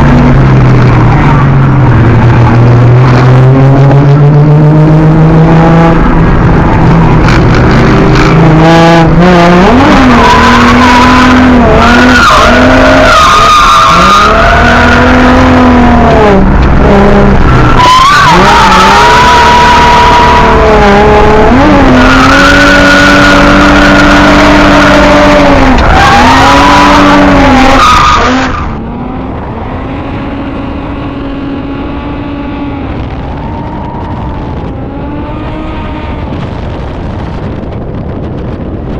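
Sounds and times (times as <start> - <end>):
tyres skidding: 0.0 - 38.7
car engine revving: 0.0 - 38.9.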